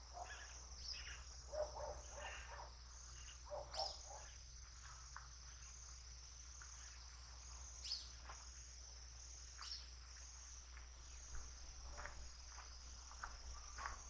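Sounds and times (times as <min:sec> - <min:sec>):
crickets chorus: 0:00.0 - 0:14.0.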